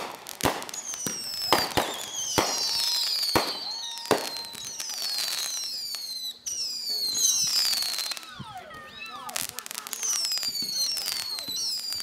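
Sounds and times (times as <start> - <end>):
falling firework whistles: 0.0 - 12.0
fireworks bangs: 0.0 - 12.0.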